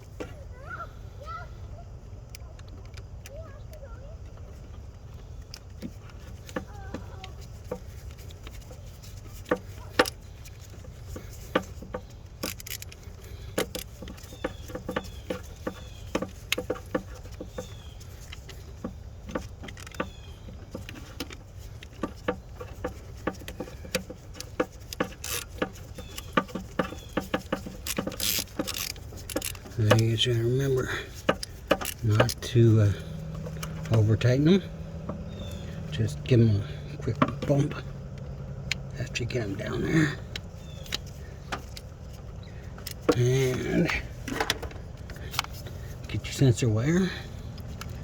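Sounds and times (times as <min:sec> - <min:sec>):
small metallic clicks and taps: 0:02.2 - 0:48.0.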